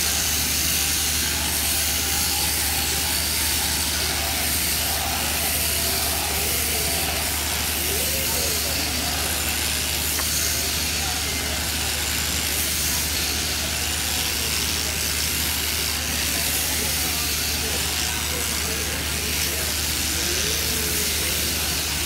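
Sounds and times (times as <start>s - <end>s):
shearing handpiece hissing: 0.0s - 22.0s.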